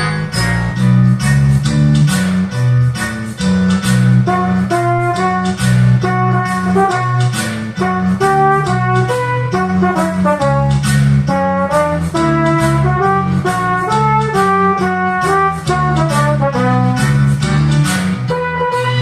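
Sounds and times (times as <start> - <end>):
band instrumental with bass guitar drums: 0.0 - 19.0.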